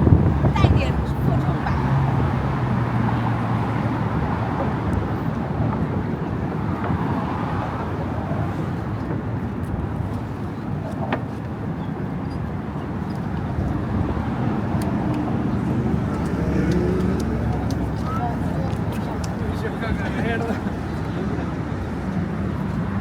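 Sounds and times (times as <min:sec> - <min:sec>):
road traffic rushing: 0:00.0 - 0:08.9, 0:13.5 - 0:23.0.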